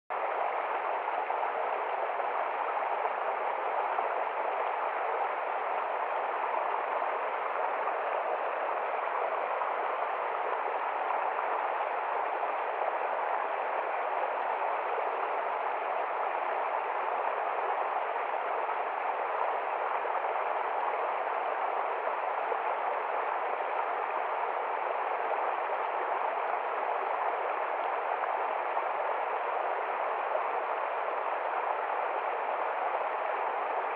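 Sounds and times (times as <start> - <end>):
river water flowing: 0.1 - 33.9.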